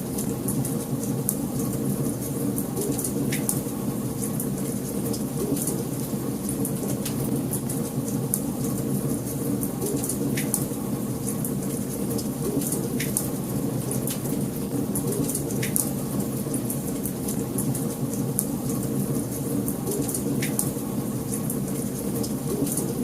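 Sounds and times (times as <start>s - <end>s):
fireplace fire crackling and popping: 0.0s - 23.0s.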